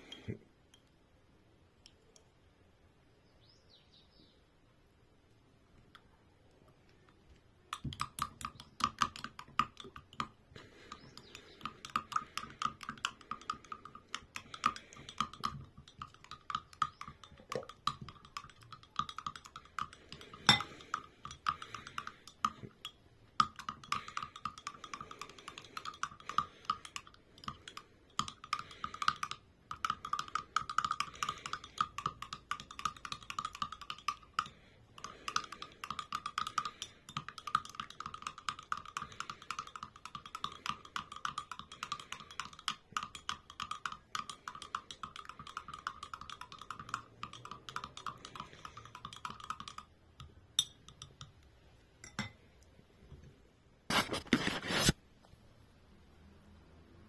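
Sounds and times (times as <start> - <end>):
light clicking and tapping: 5.8 - 53.4.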